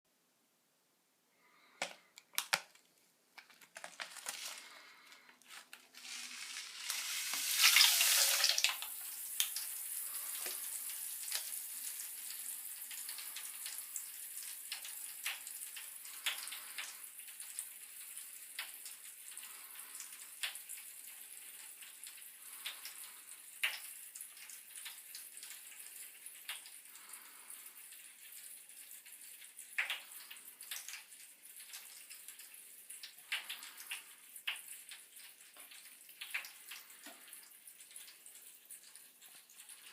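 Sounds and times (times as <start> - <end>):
bath crackles fizzing in water: 1.7 - 39.9.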